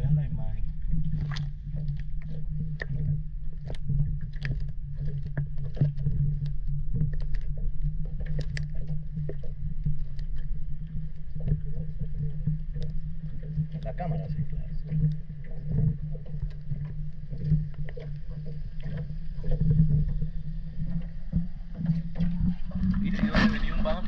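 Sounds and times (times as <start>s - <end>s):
low underwater hum: 0.0s - 24.0s
water lapping against camera: 0.0s - 24.0s.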